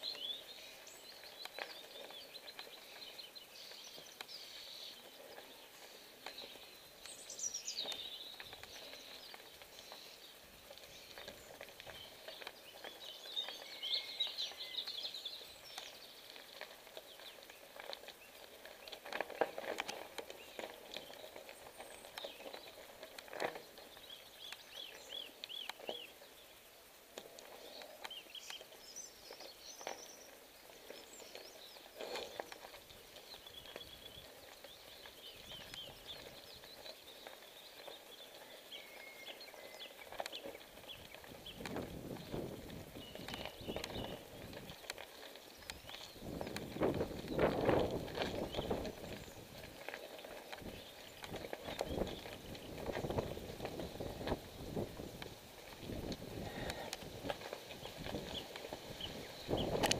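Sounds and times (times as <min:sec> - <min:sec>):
bicycle rattling on gravel: 0:00.0 - 0:59.9
small birds chirping: 0:00.0 - 0:59.9.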